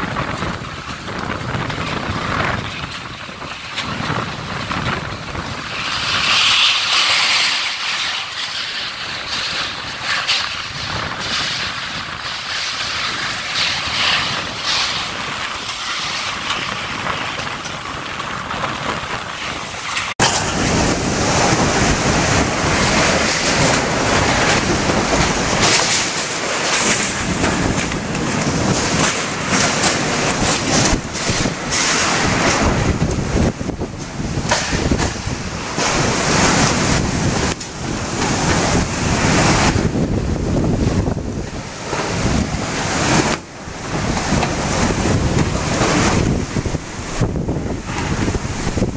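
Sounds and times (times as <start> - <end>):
strong wind gusting: 0.0 - 48.9
wind buffeting microphone: 0.0 - 48.9.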